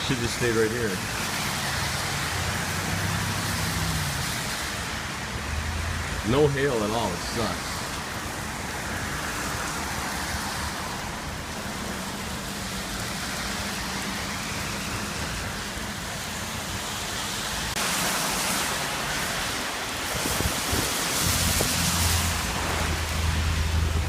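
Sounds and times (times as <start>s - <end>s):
gusty wind: 0.0s - 24.0s
heavy rain pouring: 0.0s - 24.0s.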